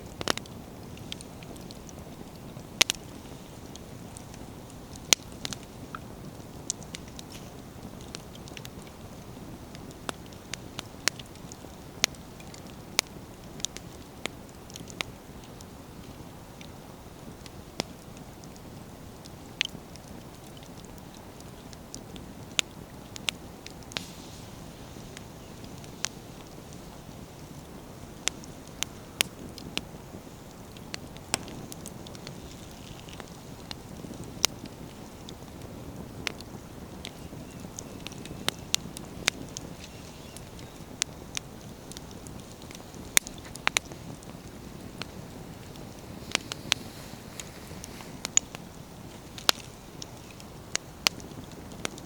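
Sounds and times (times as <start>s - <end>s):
firewood crackling and snapping: 0.0s - 52.0s
flames rushing: 0.0s - 52.0s.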